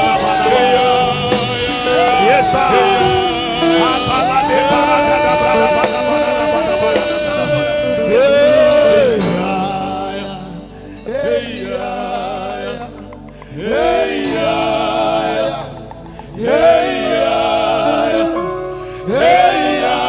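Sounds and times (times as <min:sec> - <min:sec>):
instrumental backing: 0:00.0 - 0:20.0
person singing with vibrato: 0:00.0 - 0:20.0.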